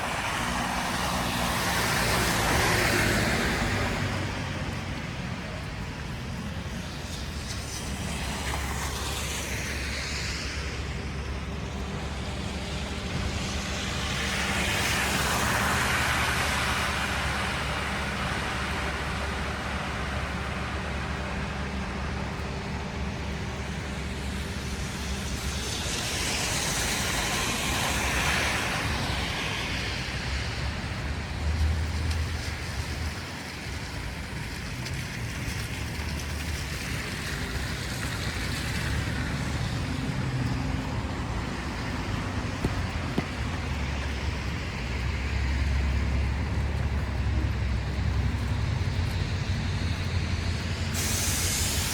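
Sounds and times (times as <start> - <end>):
traffic rumble: 0.0 - 51.9
vehicle passing with tyre hiss: 0.0 - 51.9.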